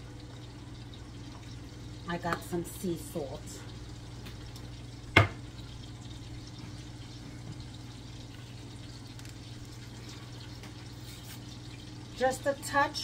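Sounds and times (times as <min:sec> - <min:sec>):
sausages sizzling in pan: 0:00.0 - 0:13.0.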